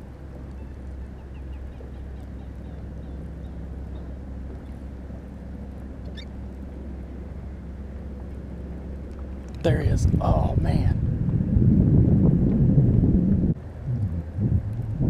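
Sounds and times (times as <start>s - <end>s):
boat motor humming: 0.0s - 15.0s
water noise: 0.0s - 15.0s
wind: 0.0s - 15.0s.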